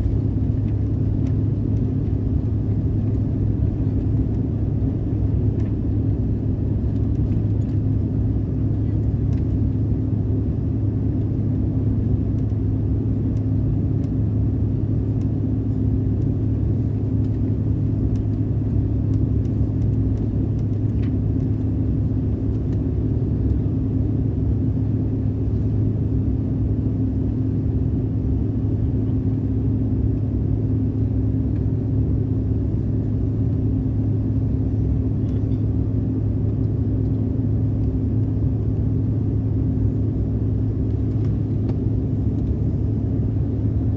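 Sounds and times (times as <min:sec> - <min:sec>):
airplane cabin rumble: 0:00.0 - 0:43.9
constant low hum: 0:00.0 - 0:43.9.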